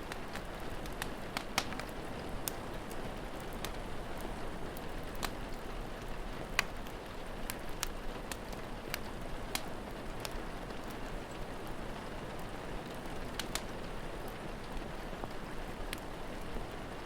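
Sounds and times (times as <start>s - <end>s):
steady rain falling: 0.0s - 17.0s
wood fire crackling: 0.0s - 17.0s.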